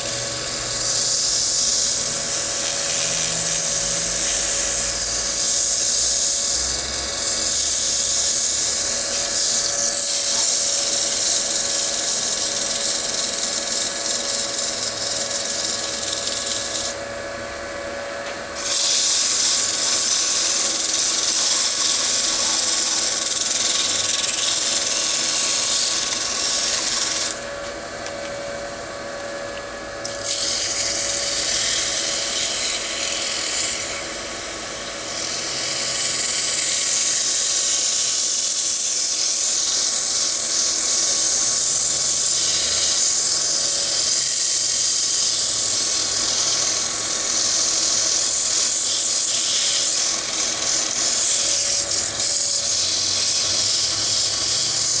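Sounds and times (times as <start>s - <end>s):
sandpaper hissing on spinning wood: 0.0s - 17.0s, 18.6s - 27.5s, 30.0s - 55.0s
lathe motor hum: 0.0s - 55.0s.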